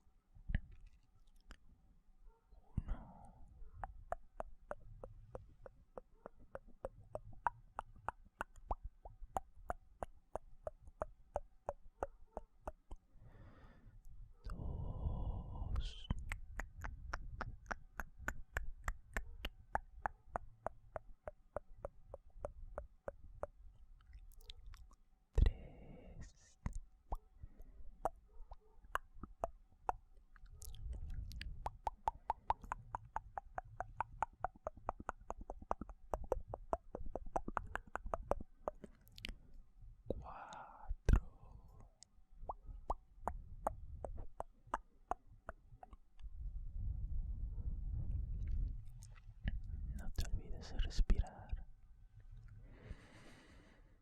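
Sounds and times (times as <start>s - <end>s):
wet mouth clicks and pops: 0.5s - 1.6s, 2.8s - 13.1s, 14.0s - 25.8s, 26.5s - 39.5s, 40.1s - 46.3s, 48.3s - 51.6s.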